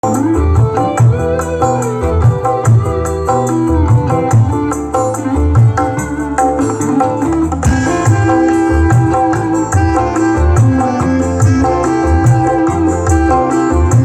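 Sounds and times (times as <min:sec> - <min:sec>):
loud music with heavy drum beat: 0:00.0 - 0:14.0.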